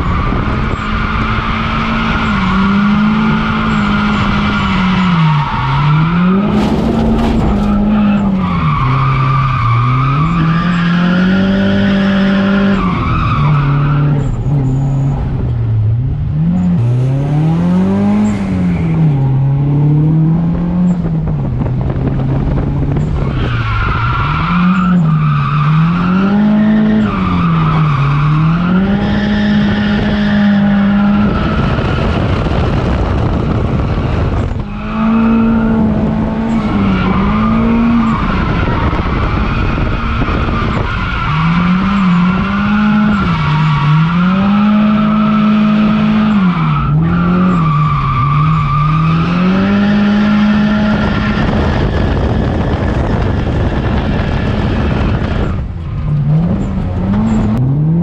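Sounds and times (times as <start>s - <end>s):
car engine revving hard: 0.0s - 15.2s, 16.3s - 21.1s, 23.9s - 58.0s.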